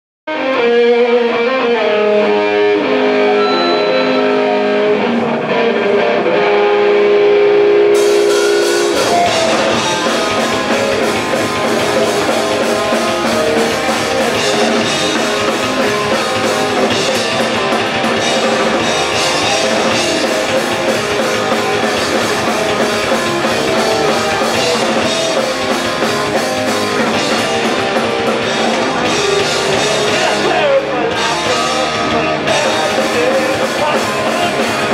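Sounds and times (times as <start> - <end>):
drums: 0.3 - 34.9
electric guitar: 0.3 - 34.9
punk rock band playing live: 0.3 - 34.9.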